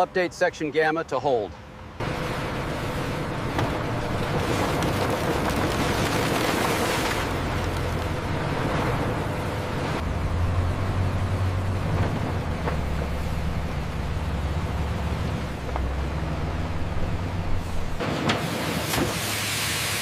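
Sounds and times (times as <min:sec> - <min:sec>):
factory machinery rumbling: 0:00.0 - 0:19.6
low hum: 0:01.6 - 0:18.0.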